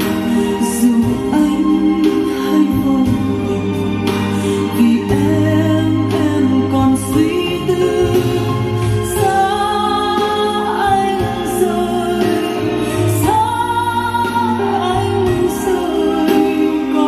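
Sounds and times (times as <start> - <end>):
instrumental accompaniment: 0.0 - 17.0.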